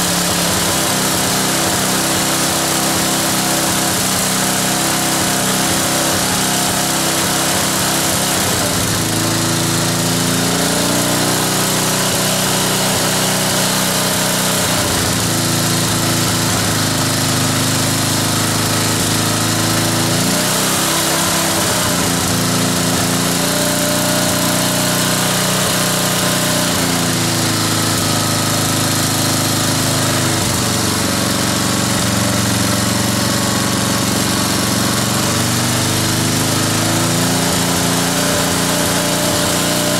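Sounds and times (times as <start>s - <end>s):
ride-on mower engine running: 0.0s - 39.9s.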